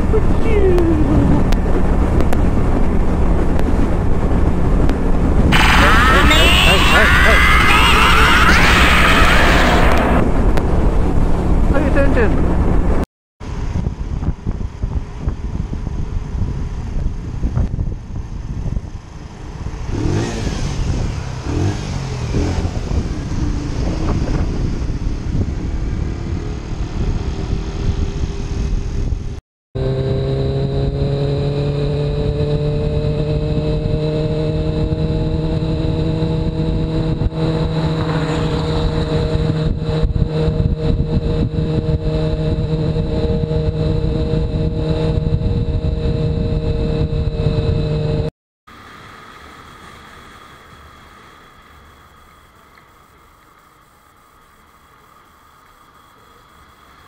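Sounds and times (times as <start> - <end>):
wind rush: 0.0 - 29.4, 31.9 - 49.3
motorcycle engine drone: 0.0 - 57.0.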